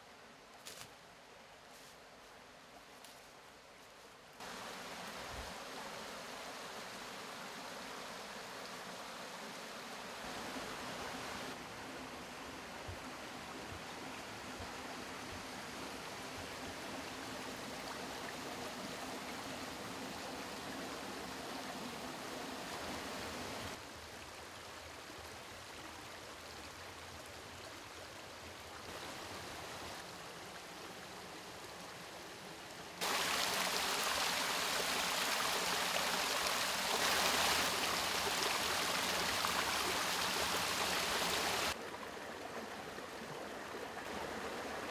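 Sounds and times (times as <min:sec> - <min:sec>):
stream water rushing: 0:03.6 - 0:44.9.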